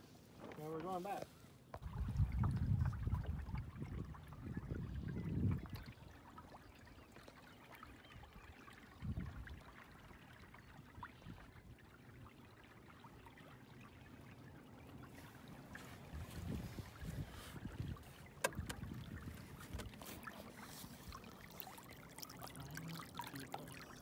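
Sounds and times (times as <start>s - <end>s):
water lapping against hull: 0.2s - 24.0s.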